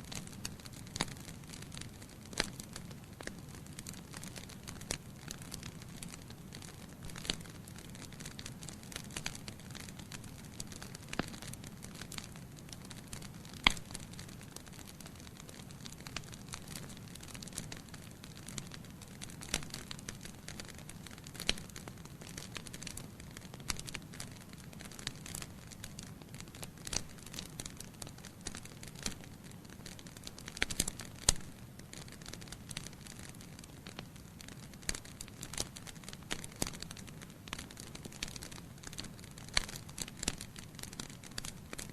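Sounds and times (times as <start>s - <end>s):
crackles and pops of burning logs: 0.0s - 41.9s.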